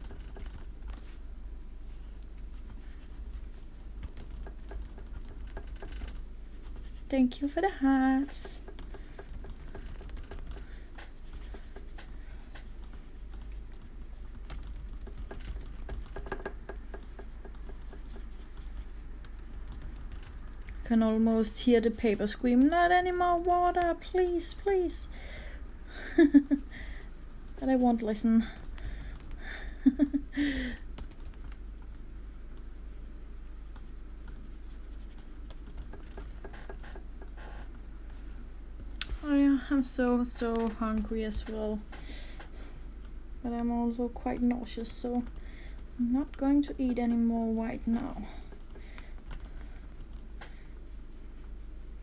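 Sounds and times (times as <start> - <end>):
light ticks and scratches: 0.0 - 52.0.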